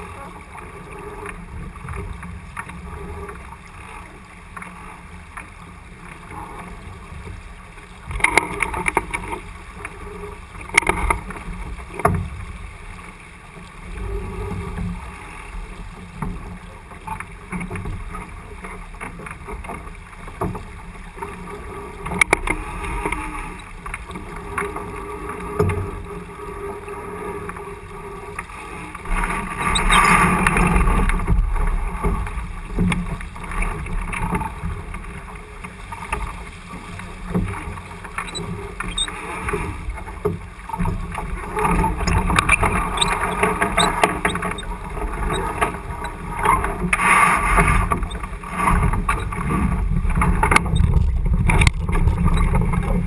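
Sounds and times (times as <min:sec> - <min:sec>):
boat knocks and clatters: 0:00.0 - 0:53.0
water and wind rushing: 0:00.0 - 0:53.0.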